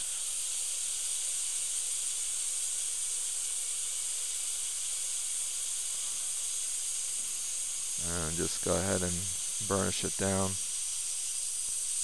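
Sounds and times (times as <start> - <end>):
dental drill hissing: 0.0 - 12.0.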